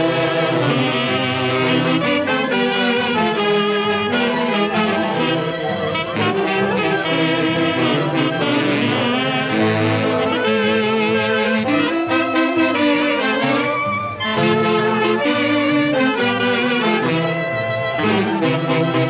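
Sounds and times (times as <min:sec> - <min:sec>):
saxophones playing a melody: 0:00.0 - 0:19.0.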